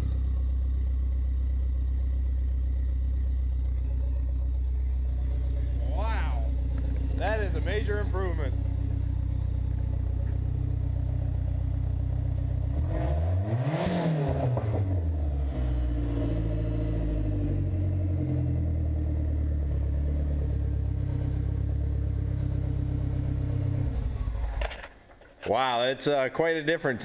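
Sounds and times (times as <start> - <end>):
car engine idling and revving: 0.0 - 25.4.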